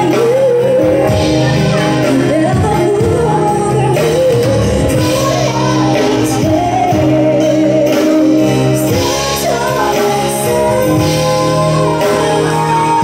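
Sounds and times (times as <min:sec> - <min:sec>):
live pop band playing a ballad: 0:00.0 - 0:13.0
woman singing: 0:00.0 - 0:13.0.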